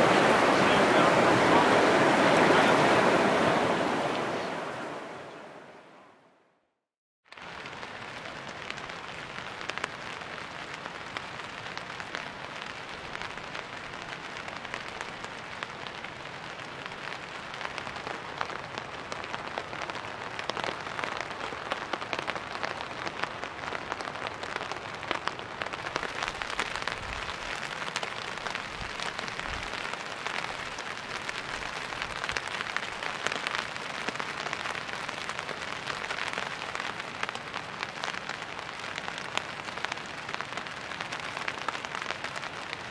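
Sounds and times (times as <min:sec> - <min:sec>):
rain on hard surfaces: 0:00.0 - 0:05.9, 0:07.2 - 0:42.9.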